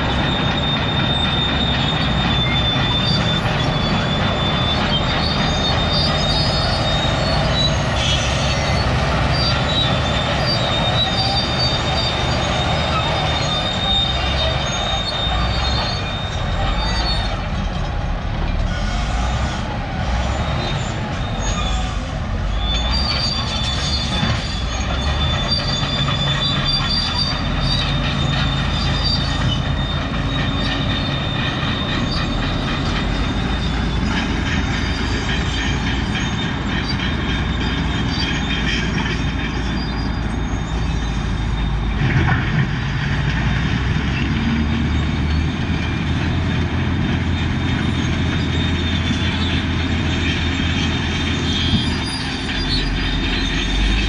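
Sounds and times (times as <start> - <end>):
vehicle rumble and rattle: 0.0 - 54.0.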